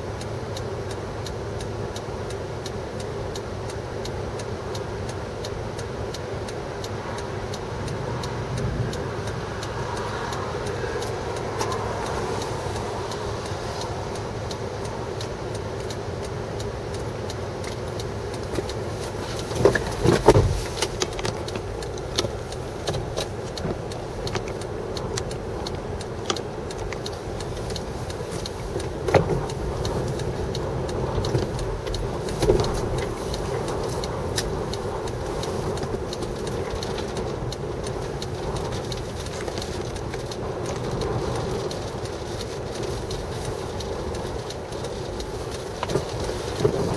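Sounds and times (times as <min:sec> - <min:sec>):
passing car traffic: 0:00.0 - 0:46.9.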